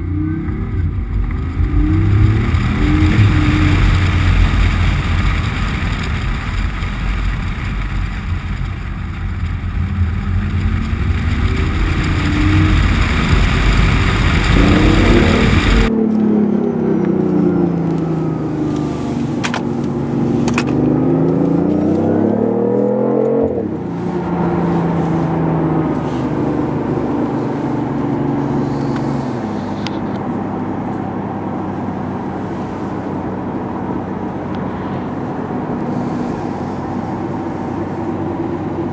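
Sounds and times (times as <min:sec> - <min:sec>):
loud rumble and rush: 0:00.0 - 0:22.8, 0:23.5 - 0:38.9
car engine revving: 0:00.0 - 0:38.9.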